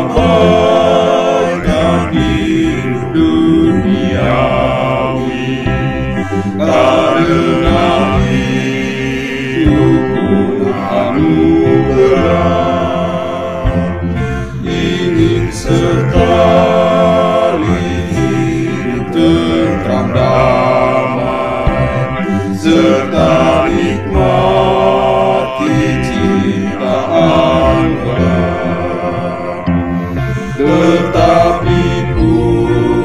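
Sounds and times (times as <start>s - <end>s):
male vocal quartet singing hymn: 0.0s - 33.0s.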